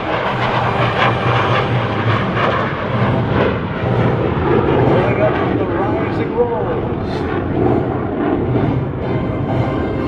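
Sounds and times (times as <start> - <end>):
fighter jet engine roar: 0.0 - 10.0.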